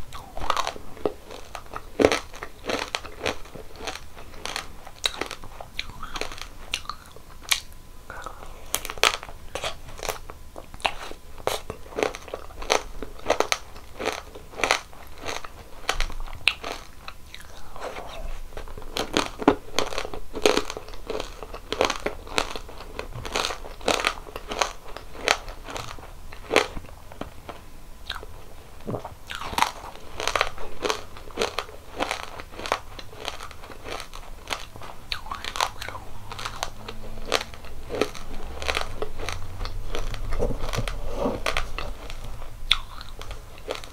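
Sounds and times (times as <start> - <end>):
crisp chewing crunches: 0.0 - 43.9.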